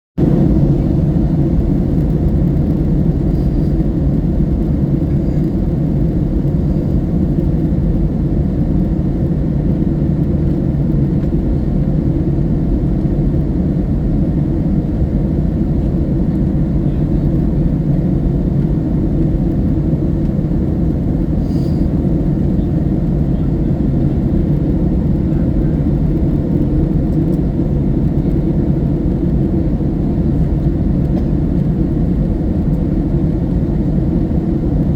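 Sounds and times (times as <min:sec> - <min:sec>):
airliner low rumble: 0:00.2 - 0:34.9.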